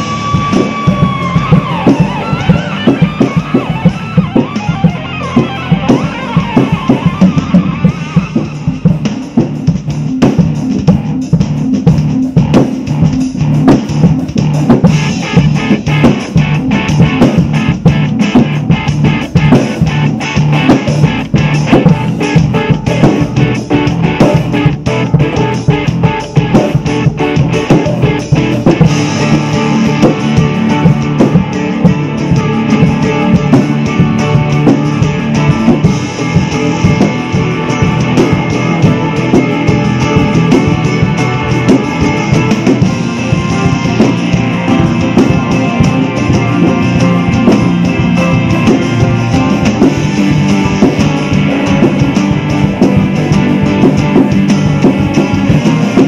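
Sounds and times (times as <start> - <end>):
drum kit played hard: 0.0 - 56.0
rock backing track with electric guitar: 0.0 - 56.0.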